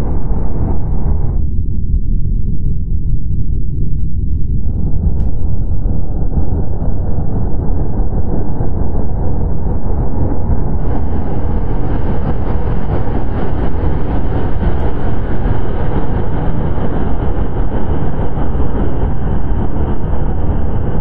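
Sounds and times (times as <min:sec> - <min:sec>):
rumbling electronic noise music: 0:00.0 - 0:21.0.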